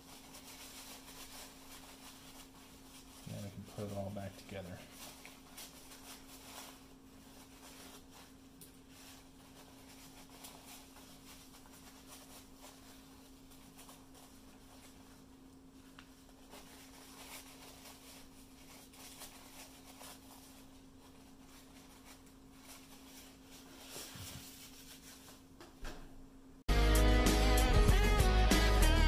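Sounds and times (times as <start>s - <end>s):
cloth rag rubbing: 0.0s - 25.5s.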